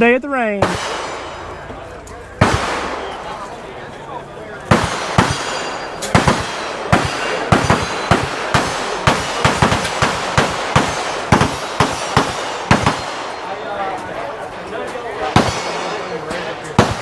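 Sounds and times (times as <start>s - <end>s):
rapid gunshots: 0.6s - 3.6s, 4.7s - 13.6s, 15.2s - 17.0s
noisy rumble: 0.6s - 17.0s.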